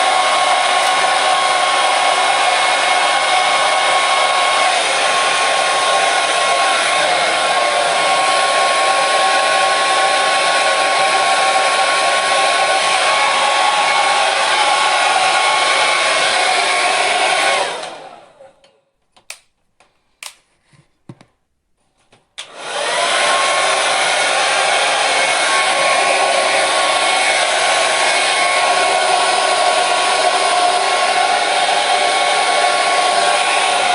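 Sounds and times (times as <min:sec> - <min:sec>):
hair dryer running: 0:00.0 - 0:18.6, 0:19.3 - 0:19.5, 0:20.2 - 0:20.4, 0:22.4 - 0:33.9.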